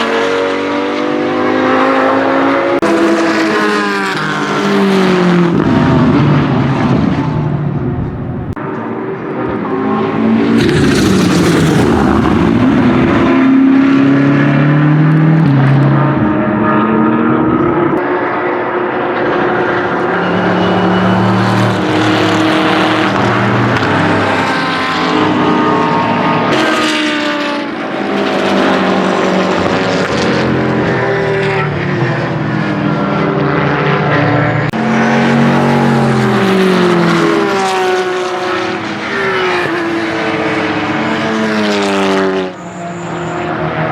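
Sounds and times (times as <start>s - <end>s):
racing car engine shifting gears: 0.0s - 18.0s, 18.8s - 43.9s.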